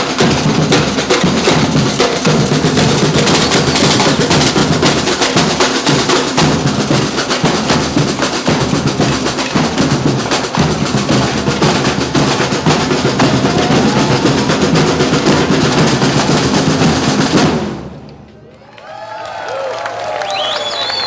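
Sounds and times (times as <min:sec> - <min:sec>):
drum band playing: 0:00.0 - 0:18.1.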